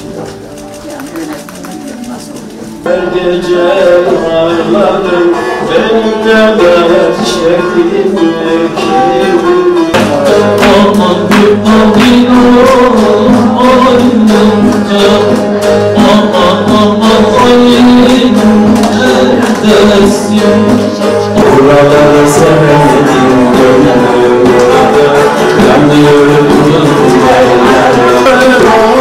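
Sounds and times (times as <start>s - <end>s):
long-necked lute strummed: 2.8s - 29.0s
man singing folk song: 2.8s - 29.0s.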